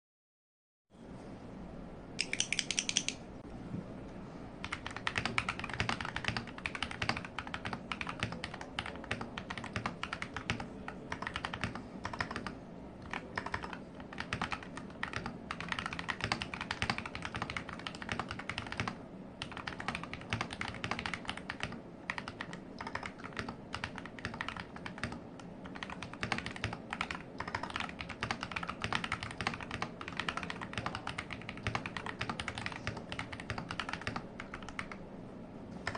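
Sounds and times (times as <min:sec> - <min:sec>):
mechanical keyboard clicks: 0:02.2 - 0:03.2, 0:04.6 - 0:35.0.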